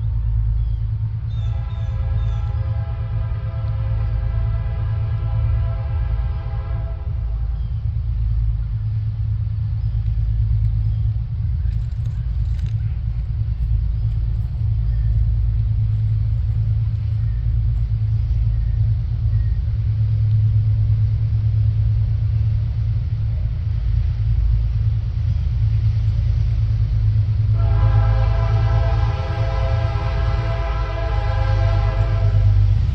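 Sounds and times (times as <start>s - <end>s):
diesel locomotive rumble: 0.0s - 32.9s.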